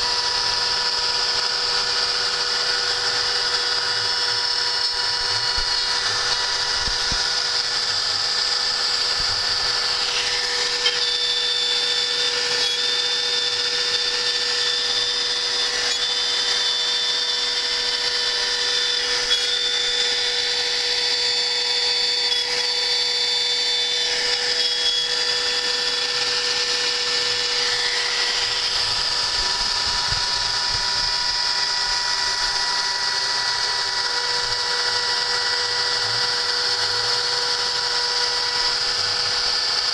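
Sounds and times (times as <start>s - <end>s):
spindle motor whining: 0.0s - 39.9s.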